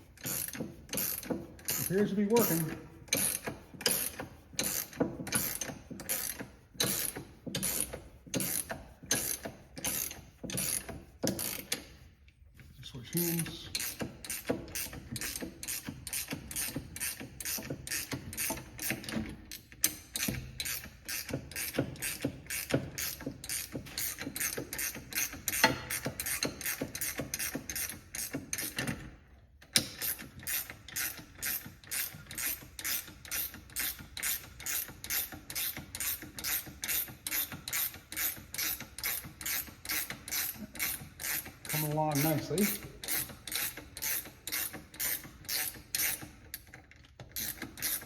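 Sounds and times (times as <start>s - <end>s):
ratchet wrench clicking: 0.1s - 12.0s, 13.3s - 48.0s.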